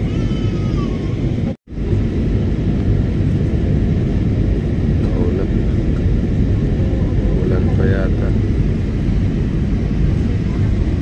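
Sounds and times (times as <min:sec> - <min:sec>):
airliner engine rumble in cabin: 0:00.0 - 0:11.0.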